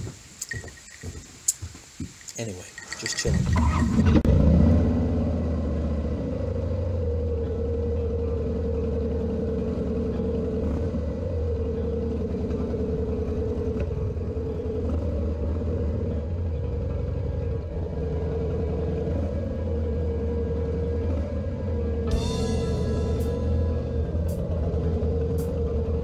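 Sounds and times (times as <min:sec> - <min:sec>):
motorcycle engine running: 0:02.8 - 0:26.0.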